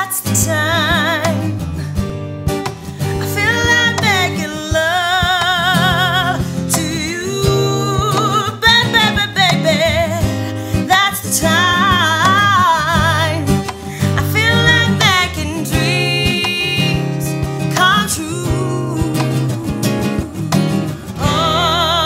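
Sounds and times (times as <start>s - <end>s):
woman singing soul song: 0.0s - 1.6s, 3.0s - 22.0s
acoustic guitar: 0.0s - 22.0s.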